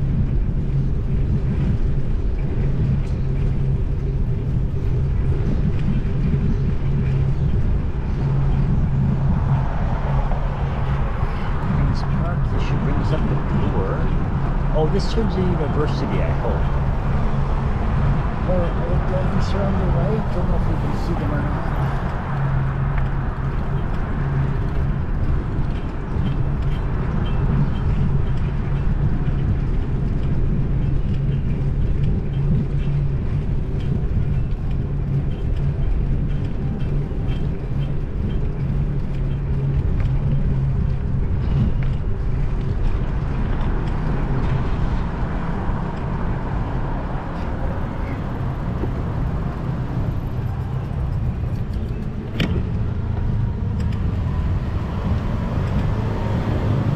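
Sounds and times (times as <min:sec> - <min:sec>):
road traffic noise: 0:00.0 - 0:56.9
wind buffeting microphone: 0:00.0 - 0:56.9.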